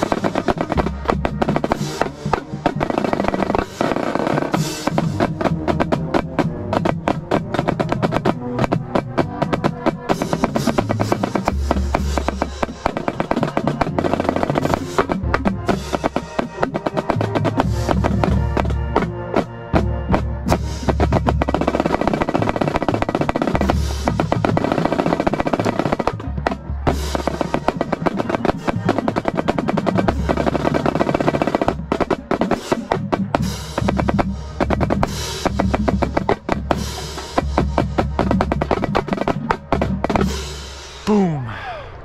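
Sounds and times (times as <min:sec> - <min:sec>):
marching snare drum: 0:00.0 - 0:41.3
drumline playing: 0:00.0 - 0:41.6.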